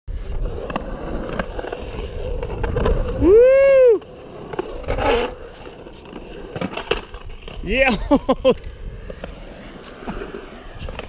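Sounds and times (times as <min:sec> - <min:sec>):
skateboard wheels rolling on concrete: 0:00.1 - 0:11.0.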